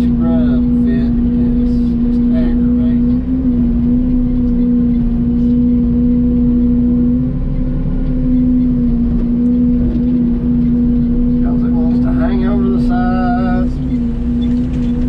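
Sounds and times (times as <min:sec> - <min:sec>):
mini excavator engine humming: 0:00.0 - 0:15.0.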